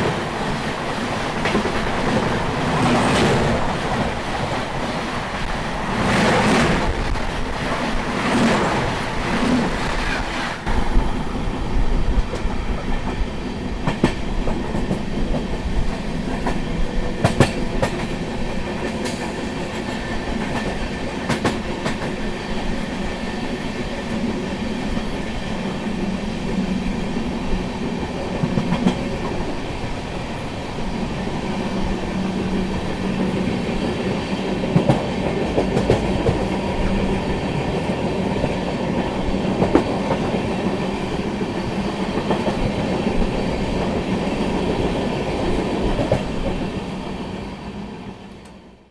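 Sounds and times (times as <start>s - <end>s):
train rumbling along track: 0.0s - 48.9s.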